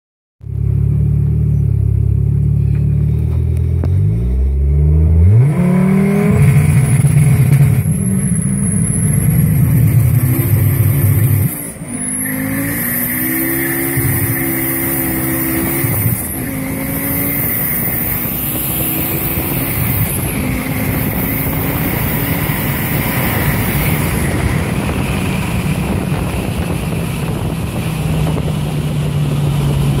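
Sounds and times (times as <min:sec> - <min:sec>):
turbocharged car engine revving: 0:00.5 - 0:30.0.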